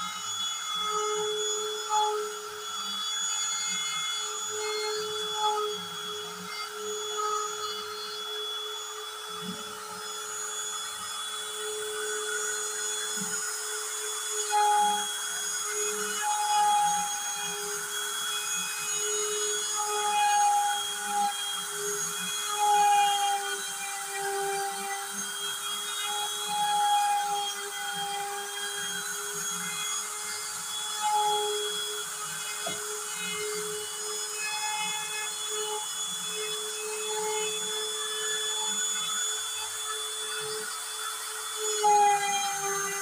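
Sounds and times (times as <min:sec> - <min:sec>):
router whining while carving: 0:00.0 - 0:43.0.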